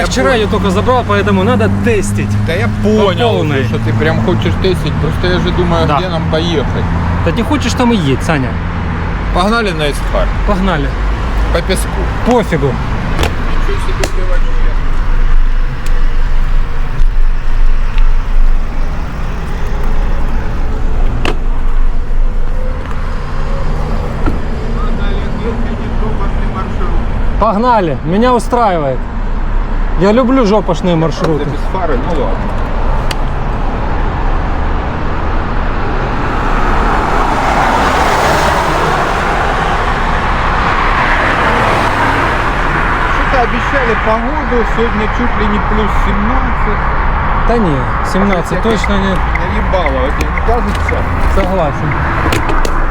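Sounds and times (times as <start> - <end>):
tyre and road rumble: 0.0 - 28.5, 29.9 - 52.9.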